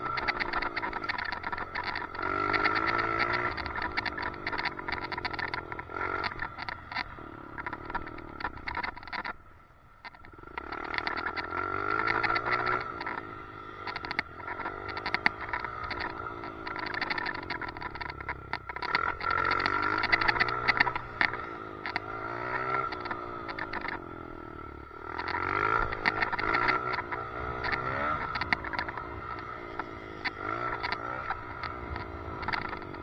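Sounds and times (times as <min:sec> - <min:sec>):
motorcycle engine revving: 0:00.0 - 0:33.0
rapid clicking rattle: 0:00.0 - 0:33.0.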